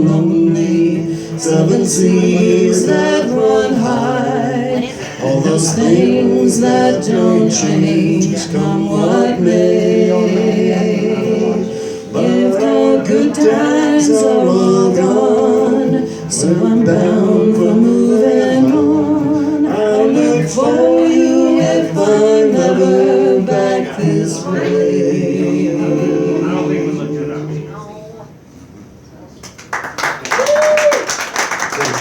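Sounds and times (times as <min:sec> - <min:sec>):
man singing folk song: 0:00.0 - 0:27.7
acoustic guitar: 0:00.0 - 0:29.0.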